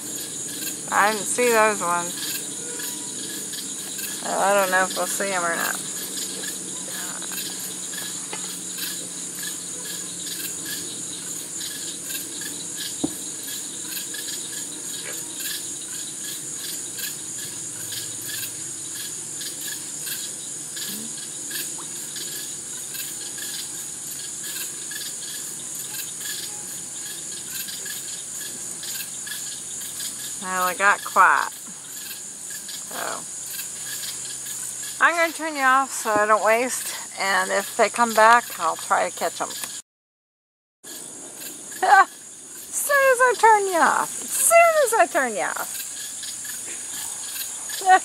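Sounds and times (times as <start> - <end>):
insect chorus trilling and chirping: 0.0 - 39.8, 40.8 - 48.0.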